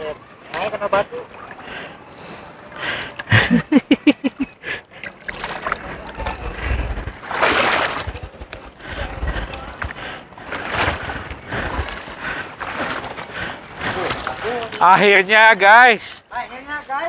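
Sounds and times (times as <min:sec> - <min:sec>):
water splashing from wading: 0:00.0 - 0:15.7
surf washing through: 0:00.0 - 0:17.0.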